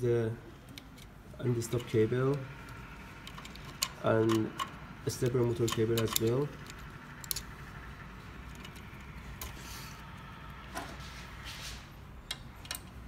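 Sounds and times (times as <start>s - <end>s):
faint clicks and handling noises: 0.5s - 11.1s, 12.2s - 13.0s.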